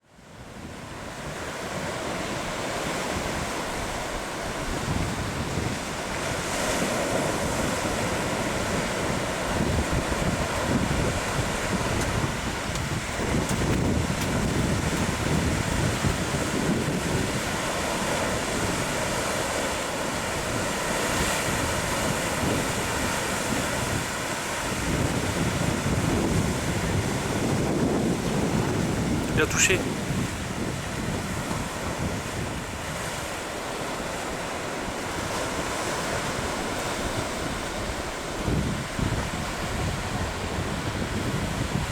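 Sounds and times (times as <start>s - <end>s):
wind buffeting microphone: 0.2s - 41.9s
ocean surf breaking: 0.3s - 41.9s.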